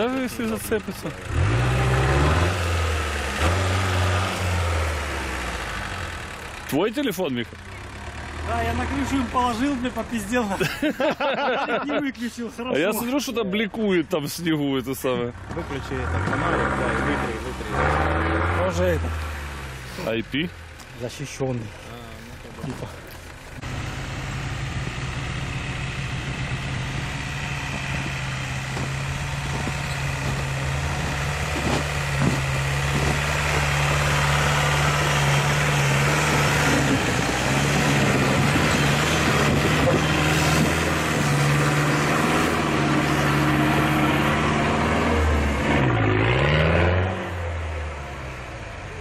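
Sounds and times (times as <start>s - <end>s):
off-road vehicle engine revving: 0.0s - 49.0s.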